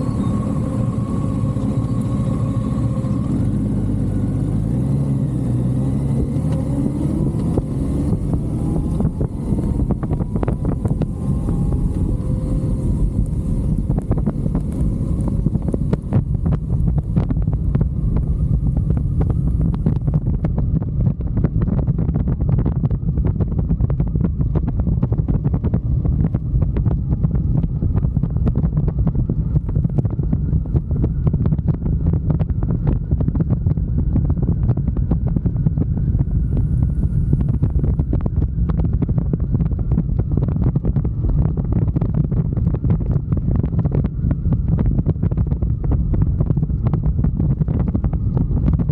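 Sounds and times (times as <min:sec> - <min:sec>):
road noise: 0:00.0 - 0:48.9
wind buffeting microphone: 0:00.0 - 0:48.9.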